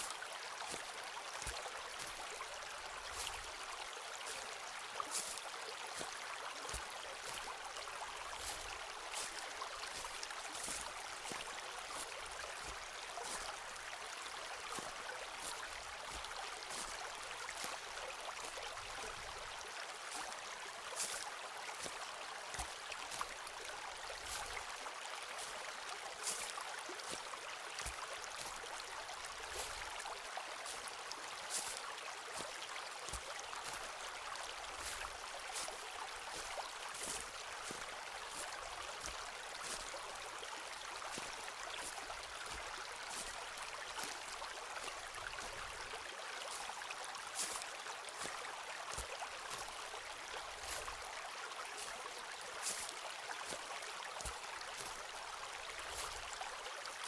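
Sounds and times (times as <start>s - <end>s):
footsteps crunching on a path: 0.0s - 51.2s, 51.8s - 55.0s, 55.6s - 56.4s
stream rushing: 0.0s - 57.0s.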